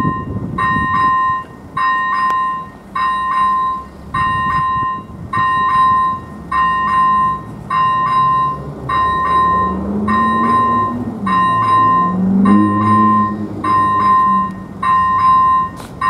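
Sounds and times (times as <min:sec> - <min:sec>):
electronic level crossing bell: 0:00.0 - 0:15.8.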